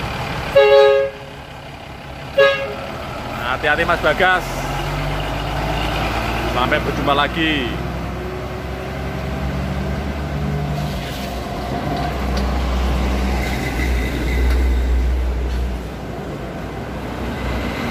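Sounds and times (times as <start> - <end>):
cargo truck pulling away: 0.0 - 17.9
lorry passing close by: 1.4 - 17.9.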